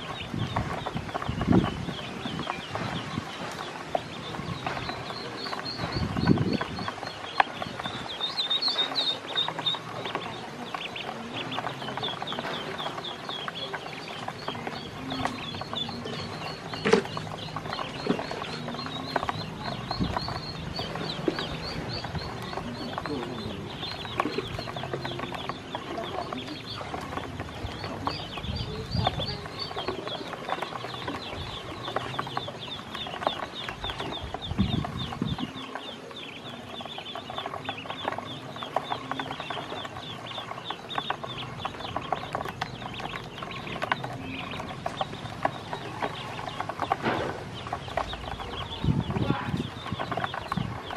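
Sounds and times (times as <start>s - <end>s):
ducklings peeping: 0.0s - 50.9s.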